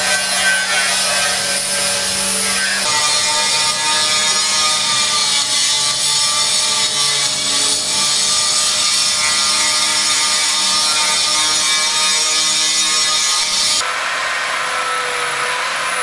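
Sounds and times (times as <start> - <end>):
power tool cutting: 0.0 - 16.0.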